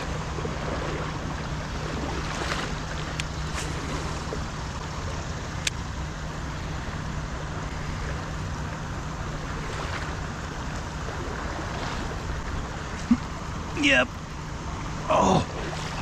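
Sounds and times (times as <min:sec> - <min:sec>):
fast river current rushing: 0:00.0 - 0:16.0.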